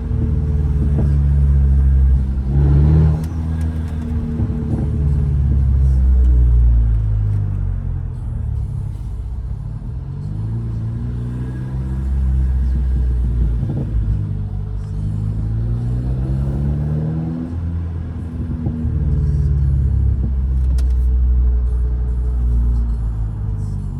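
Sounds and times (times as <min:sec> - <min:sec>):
car exhaust deep rumble: 0:00.0 - 0:23.9.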